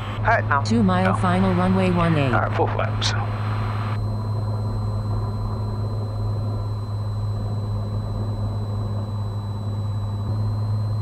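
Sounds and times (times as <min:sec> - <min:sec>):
aircraft piston engine droning: 0:00.0 - 0:11.0.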